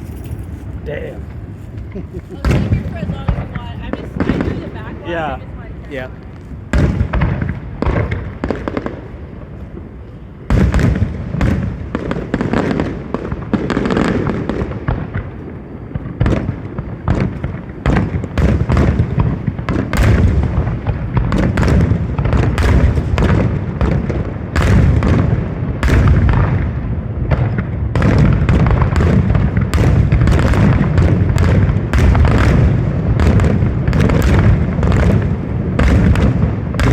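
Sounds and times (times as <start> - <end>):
fireworks booming and crackling: 0.0 - 36.9.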